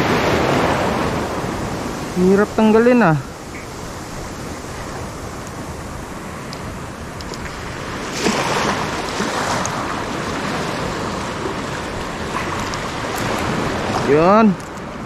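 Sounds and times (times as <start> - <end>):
sea waves washing: 0.0 - 15.0.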